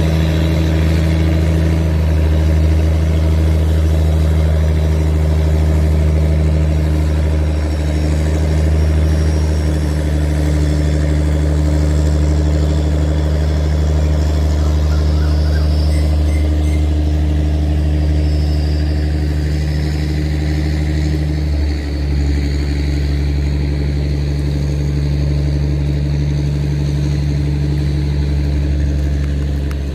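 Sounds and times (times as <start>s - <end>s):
diesel engine droning: 0.0s - 29.9s.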